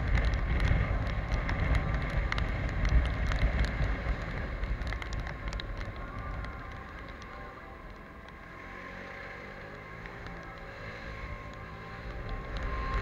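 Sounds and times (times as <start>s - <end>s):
raindrops ticking on camera: 0.0s - 13.0s
wind and road rush: 0.0s - 13.0s.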